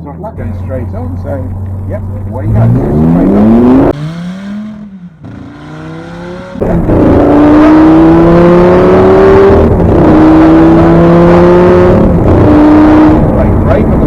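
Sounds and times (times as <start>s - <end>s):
car engine under full throttle: 1.6s - 14.0s.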